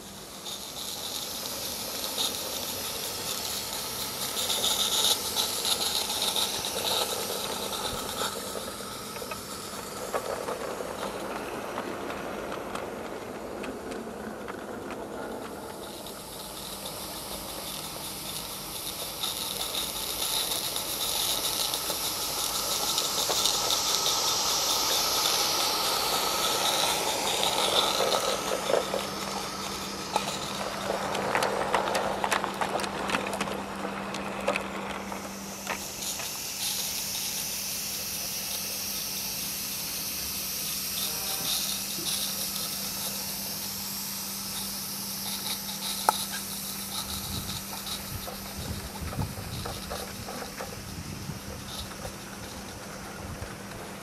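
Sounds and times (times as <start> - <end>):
steam locomotive hissing: 0.0 - 54.0
wagon wheels clicking over track: 0.0 - 54.0.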